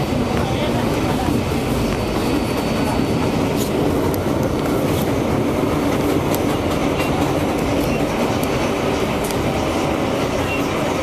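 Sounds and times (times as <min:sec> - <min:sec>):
subway train running: 0:00.0 - 0:11.0
wheels clicking over rail joints: 0:00.3 - 0:10.9.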